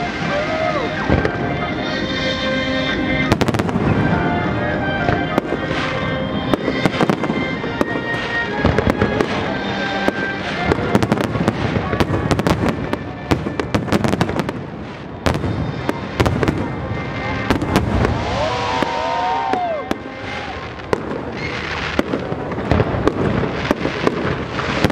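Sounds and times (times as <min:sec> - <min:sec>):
fireworks bangs and crackling: 0:00.0 - 0:24.9
music playing: 0:00.0 - 0:24.9.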